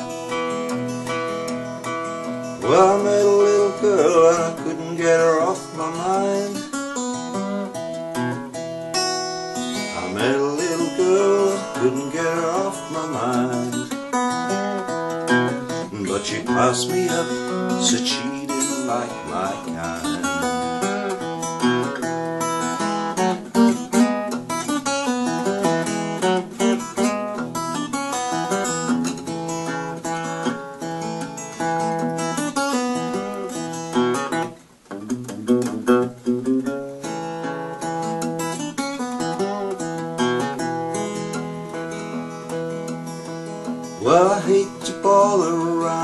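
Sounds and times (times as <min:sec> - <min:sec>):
fingerpicked acoustic guitar: 0:00.0 - 0:46.0.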